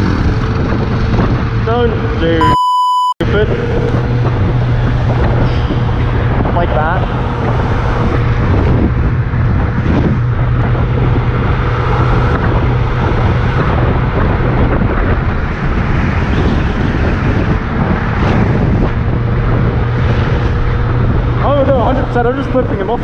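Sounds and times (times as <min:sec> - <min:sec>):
wind buffeting microphone: 0:00.0 - 0:02.4, 0:03.2 - 0:23.0.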